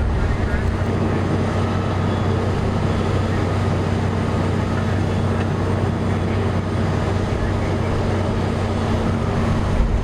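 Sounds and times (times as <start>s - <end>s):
large engine running: 0.0s - 10.0s.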